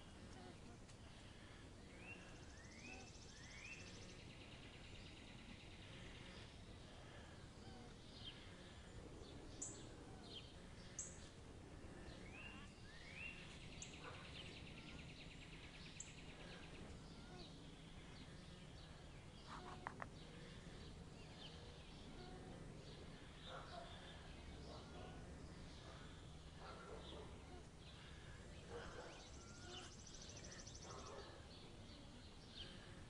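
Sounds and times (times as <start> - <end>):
faint outdoor background noise: 0.0 - 33.0.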